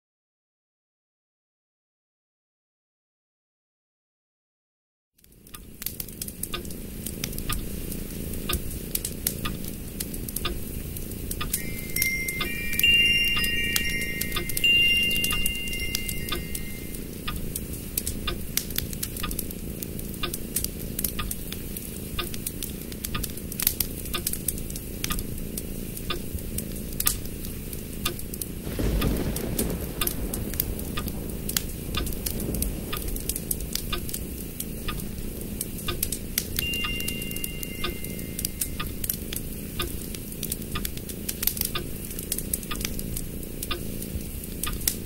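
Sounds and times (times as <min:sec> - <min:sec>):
low background noise: 0:05.2 - 0:45.0.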